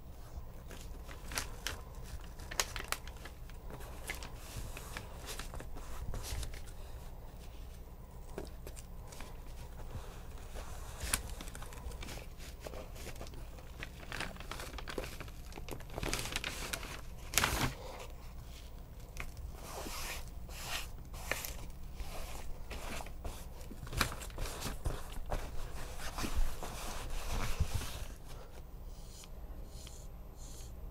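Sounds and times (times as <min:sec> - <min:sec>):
fabric and newspaper rustling: 0:00.1 - 0:28.7.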